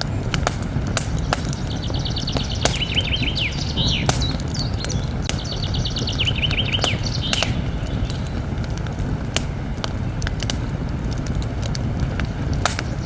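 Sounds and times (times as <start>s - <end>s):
low steady rumble: 0.0s - 13.0s
songbird singing: 0.0s - 13.0s
wood fire crackling and popping: 0.0s - 13.0s.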